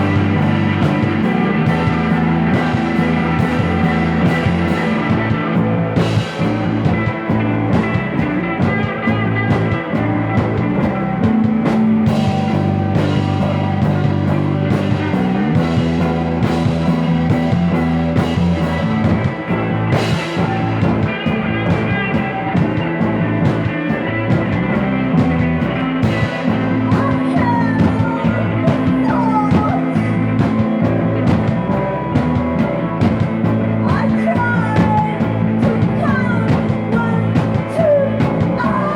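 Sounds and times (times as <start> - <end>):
bending lead guitar lines: 0.0 - 38.9
psychedelic rock band playing: 0.0 - 38.9.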